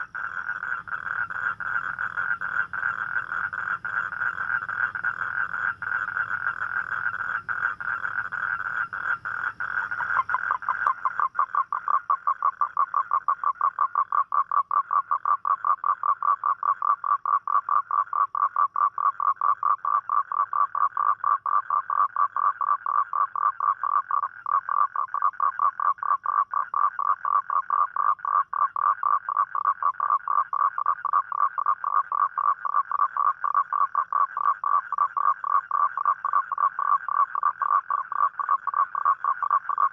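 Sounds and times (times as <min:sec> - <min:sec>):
toad trilling call: 0:00.0 - 0:39.9.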